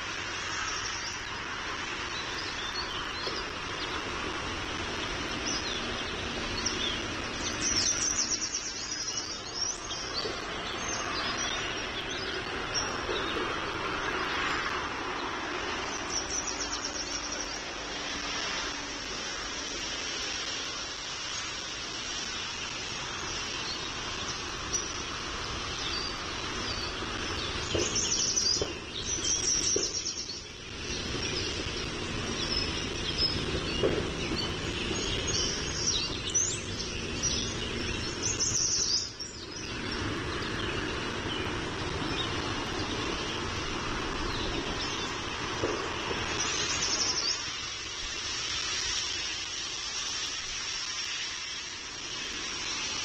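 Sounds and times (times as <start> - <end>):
birds chirping in fast trills: 0.0 - 53.0
steady background hiss and rumble: 0.0 - 53.0.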